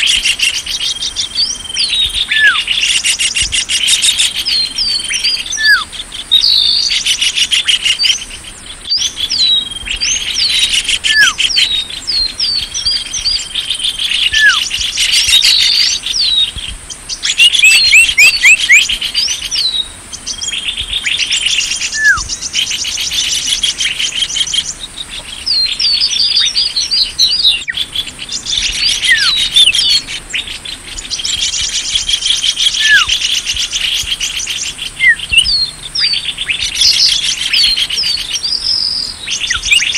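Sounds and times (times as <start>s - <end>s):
falling bird whistle: 0.0s - 8.2s, 8.9s - 16.6s, 17.2s - 39.9s
songbirds chirping and trilling: 0.0s - 39.9s.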